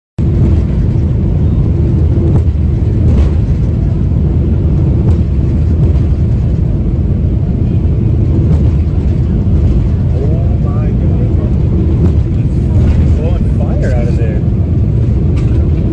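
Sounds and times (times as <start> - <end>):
jet engines rumbling: 0.2 - 15.9.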